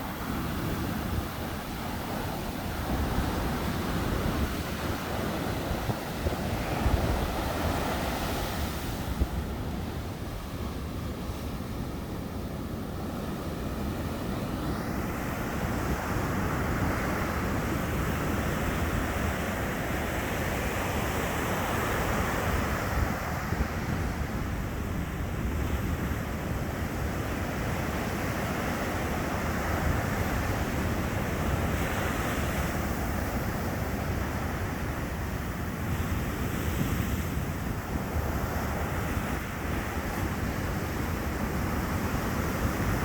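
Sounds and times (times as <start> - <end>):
sea surf breaking on beach: 0.0 - 43.0.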